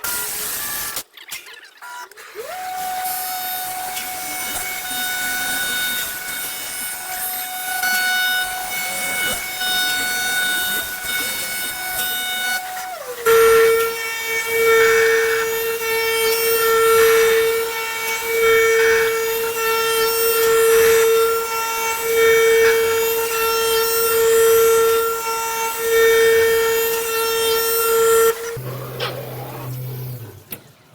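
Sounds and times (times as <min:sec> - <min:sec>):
tool grinding glass: 0:03.0 - 0:30.6.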